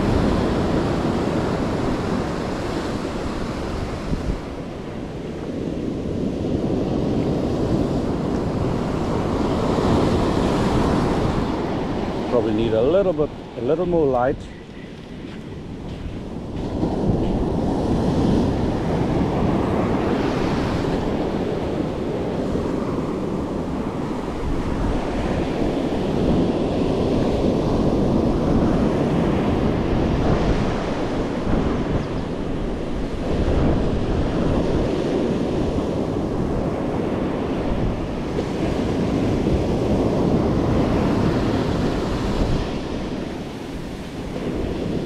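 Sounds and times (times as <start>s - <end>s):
ocean surf breaking on sand: 0.0s - 45.0s
wind buffeting microphone: 0.0s - 45.0s.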